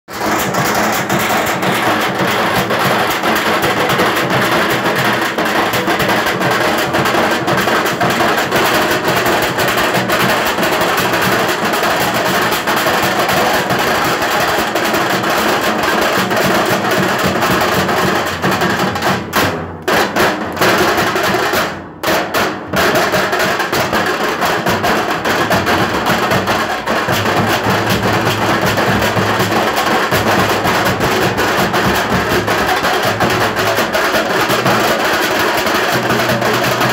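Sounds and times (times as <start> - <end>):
steel drum band playing rhythm: 0.1 - 36.9.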